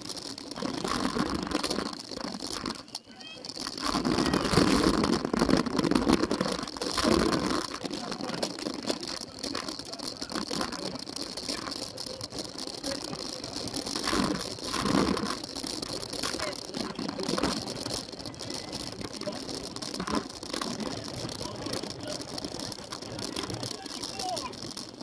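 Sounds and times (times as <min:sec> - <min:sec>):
bike rattling over rough ground: 0:00.0 - 0:25.0.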